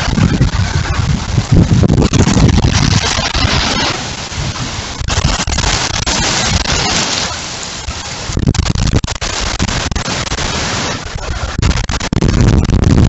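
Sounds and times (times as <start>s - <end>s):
heavy rain: 0.0s - 13.0s
wind rumbling on microphone: 0.0s - 13.0s.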